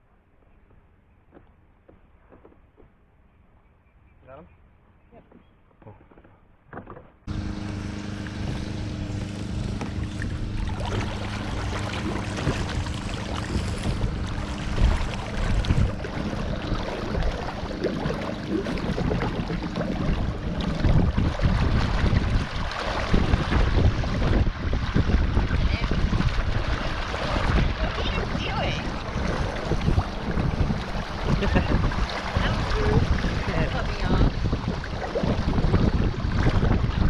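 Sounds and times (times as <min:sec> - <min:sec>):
steady low hum: 0:07.3 - 0:37.0
water splashing: 0:07.3 - 0:37.0
wind buffeting microphone: 0:07.3 - 0:37.0.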